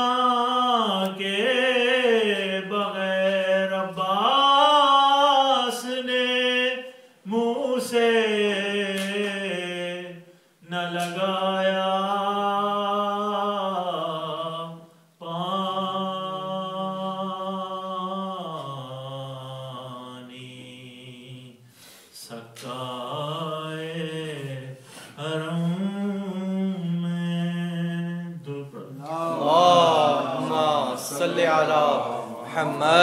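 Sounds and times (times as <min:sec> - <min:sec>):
man singing unaccompanied: 0:00.0 - 0:21.6, 0:22.2 - 0:33.0.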